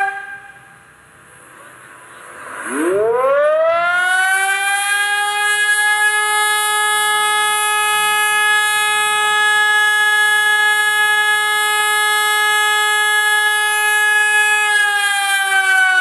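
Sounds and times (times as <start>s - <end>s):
siren wailing: 2.5s - 16.0s.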